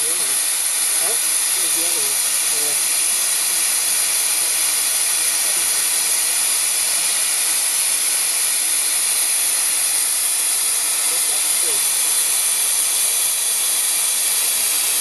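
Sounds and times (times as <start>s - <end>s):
steam blasting hiss: 0.0s - 15.0s.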